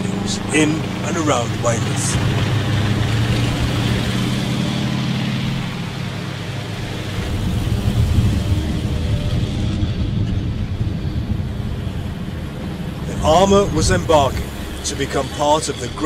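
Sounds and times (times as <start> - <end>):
military vehicle engines droning: 0.0 - 16.0.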